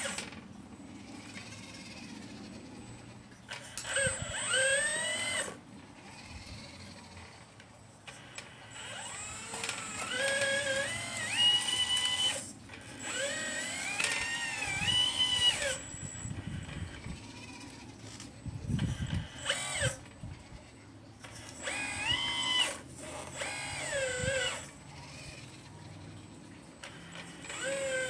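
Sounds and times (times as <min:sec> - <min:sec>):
model excavator motor whining: 0:00.0 - 0:28.0.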